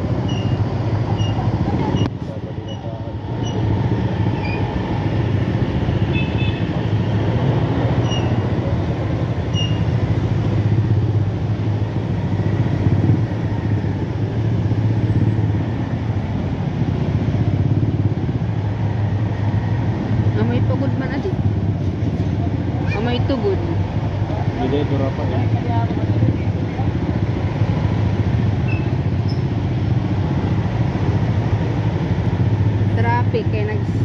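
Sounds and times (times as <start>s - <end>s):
car traffic: 0.0s - 34.0s.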